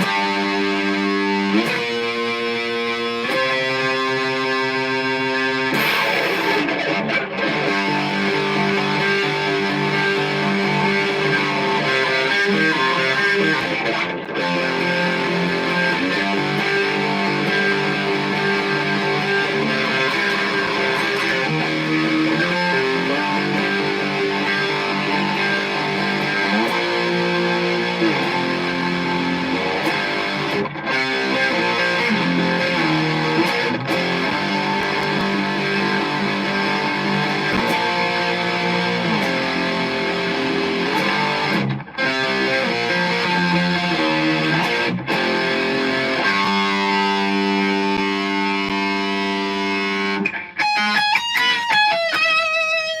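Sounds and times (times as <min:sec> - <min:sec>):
distorted electric guitar riff: 0:00.0 - 0:53.0.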